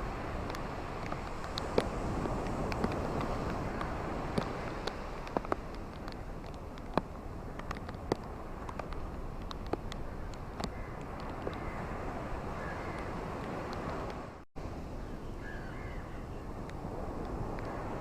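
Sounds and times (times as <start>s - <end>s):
ocean waves washing onto beach: 0.0s - 18.0s.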